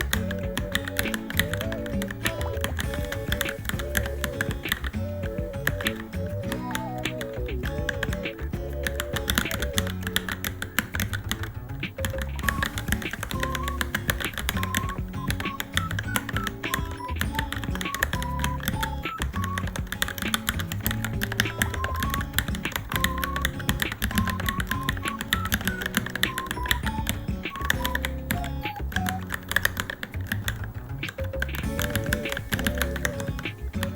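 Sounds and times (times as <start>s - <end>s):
background music with melody and bass: 0.0s - 33.9s
mechanical keyboard typing: 0.0s - 33.9s.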